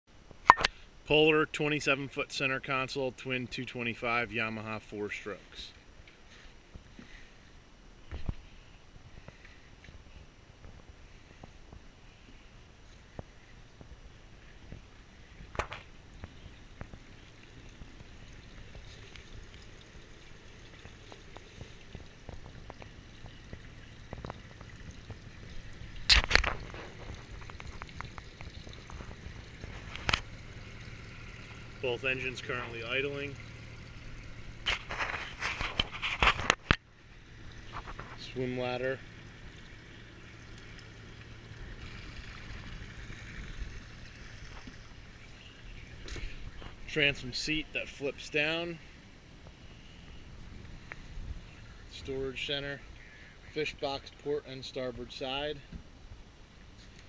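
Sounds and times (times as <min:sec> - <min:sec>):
outboard motors idling: 0:00.4 - 0:57.0
water pouring and splashing: 0:05.1 - 0:55.7.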